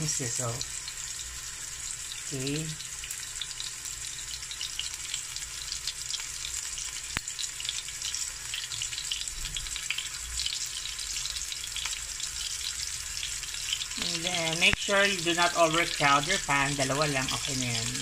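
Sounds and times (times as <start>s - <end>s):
steak sizzling in a pan: 0.0s - 18.0s.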